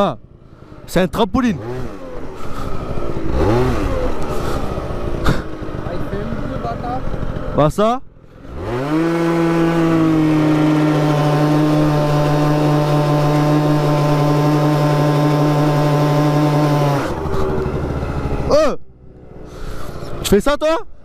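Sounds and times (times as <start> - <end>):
scooter engine revving: 0.2 - 7.7, 8.3 - 20.2.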